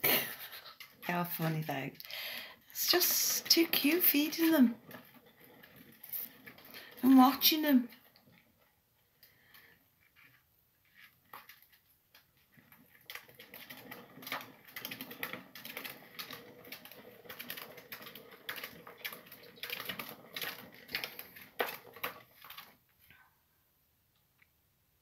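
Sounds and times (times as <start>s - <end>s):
exercise wheel rattling and clicking: 0.0s - 22.9s.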